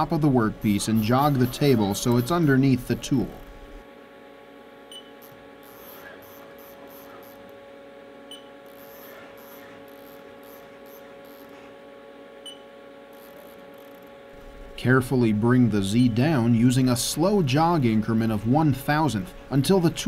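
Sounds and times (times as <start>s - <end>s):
milling machine electrical hum: 0.0s - 20.0s.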